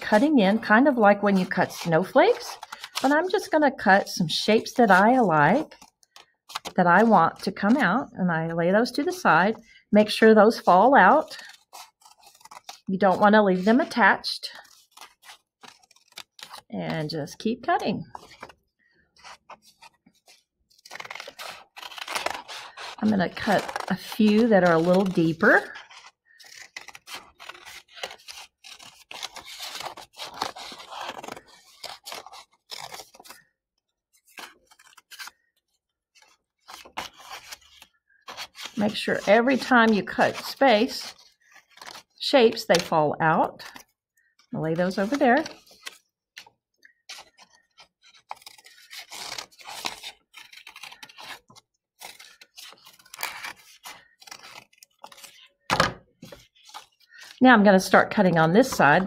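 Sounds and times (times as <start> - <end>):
scissors cutting paper: 0.0 - 7.8, 9.0 - 18.6, 19.2 - 33.4, 34.1 - 43.9, 44.6 - 57.4, 58.1 - 59.0.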